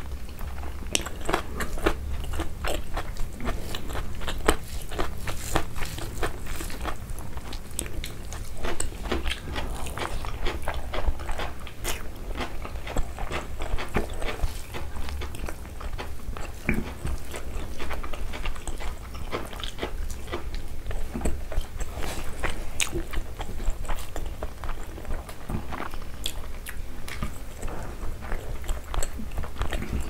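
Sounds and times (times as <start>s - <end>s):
low steady hum: 0.0s - 30.0s
wet chewing and mouth sounds: 0.0s - 30.0s.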